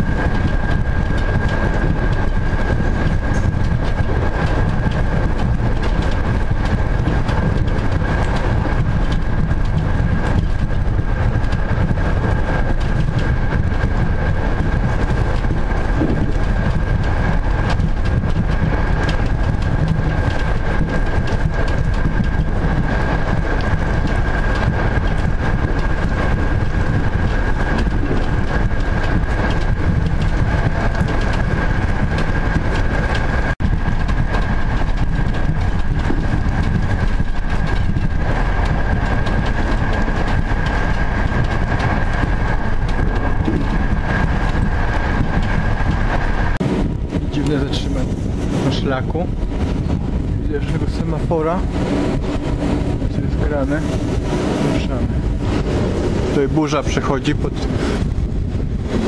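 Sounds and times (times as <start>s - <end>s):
constant high whine: 0.0s - 59.0s
train wheels rumbling on rails: 0.0s - 59.0s.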